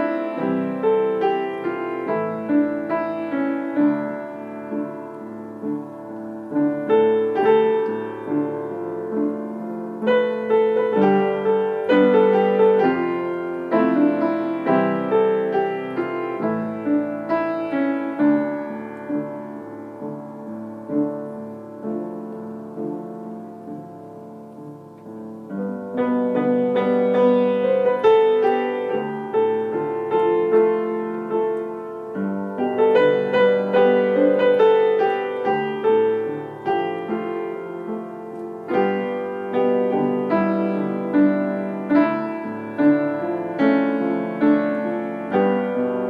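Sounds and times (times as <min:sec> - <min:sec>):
gentle piano music: 0:00.0 - 0:46.0.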